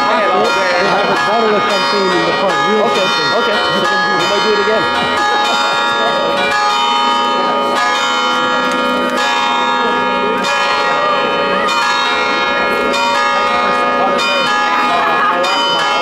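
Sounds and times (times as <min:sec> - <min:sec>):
church bells pealing: 0:00.0 - 0:16.0
crowd chattering: 0:00.0 - 0:16.0.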